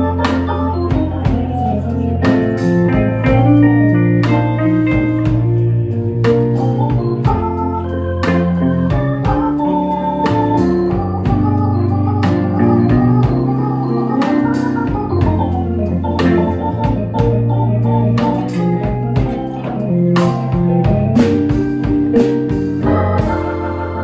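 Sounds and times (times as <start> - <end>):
electric guitar: 0.0 - 24.0
organ chords and runs: 0.0 - 24.0
steady drum beat: 0.0 - 24.0.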